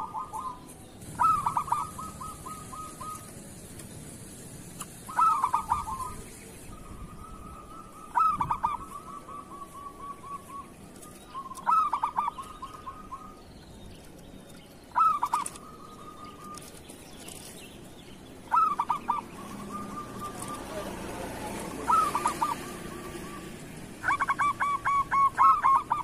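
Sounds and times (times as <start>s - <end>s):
dove cooing: 0.0s - 3.6s, 5.0s - 13.4s, 15.0s - 16.7s, 18.5s - 26.0s.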